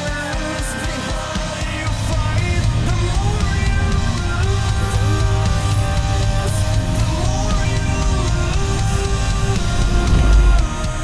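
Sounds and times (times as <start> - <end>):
hard rock music: 0.0 - 11.0.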